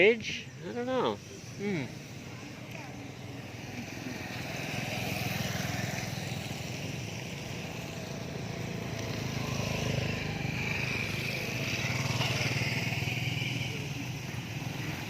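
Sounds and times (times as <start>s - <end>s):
small motorcycle engine running: 0.3s - 15.0s.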